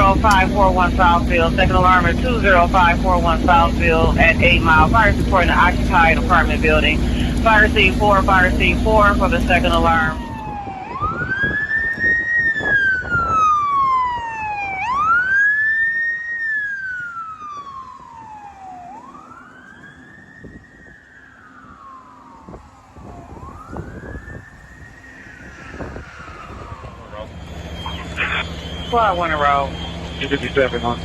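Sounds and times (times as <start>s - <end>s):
fire engine siren wailing: 0.0s - 31.0s
truck engine noise: 0.0s - 31.0s.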